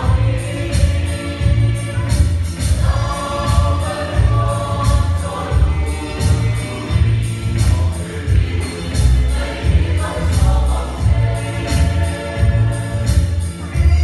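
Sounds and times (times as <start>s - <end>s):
choir singing a gospel song: 0.0s - 14.0s
deep bass notes pulsing: 0.0s - 14.0s
light percussion beat: 0.0s - 14.0s.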